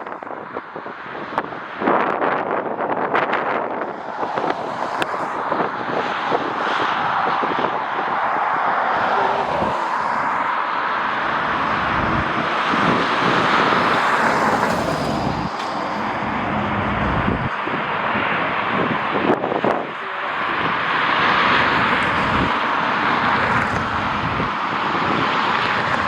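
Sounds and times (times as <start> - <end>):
wind buffeting microphone: 0.0 - 26.0
jet engines roaring: 3.6 - 26.0.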